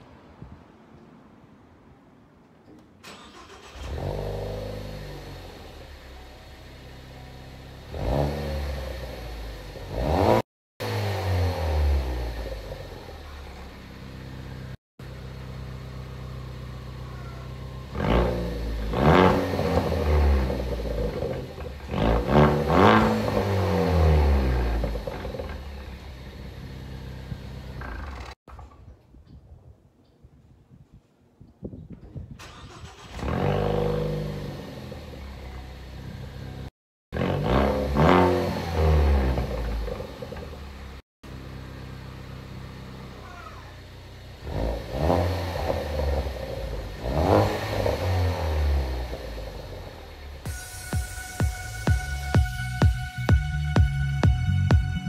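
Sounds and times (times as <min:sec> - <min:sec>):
car engine starting: 0:03.0 - 0:28.7, 0:32.3 - 0:55.0
car engine idling and revving: 0:03.1 - 0:28.4, 0:32.4 - 0:55.0.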